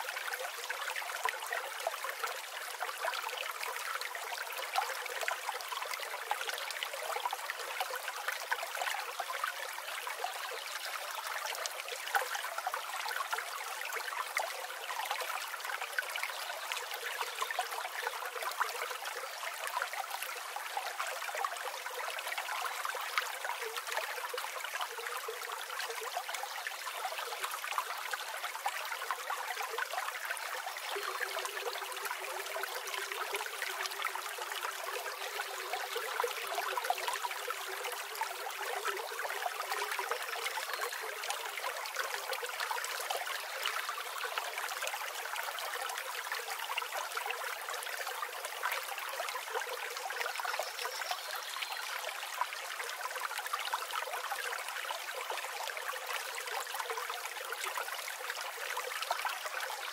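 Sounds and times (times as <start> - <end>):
river flowing: 0.0 - 50.4.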